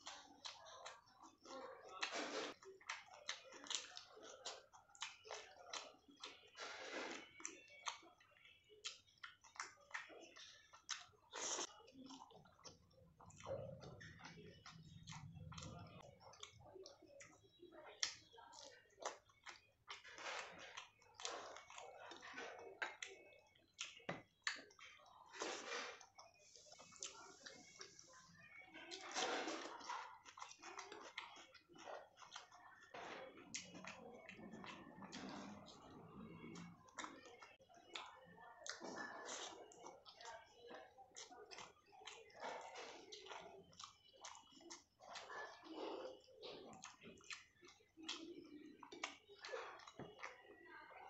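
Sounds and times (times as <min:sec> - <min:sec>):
person chewing food: 0:00.0 - 0:50.6.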